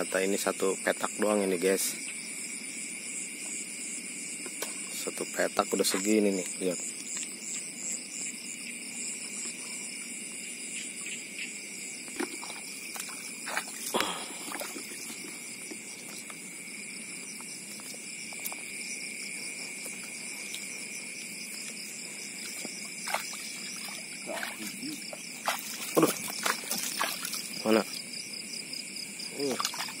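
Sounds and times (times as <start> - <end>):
crickets and insects trilling: 0.0 - 30.0.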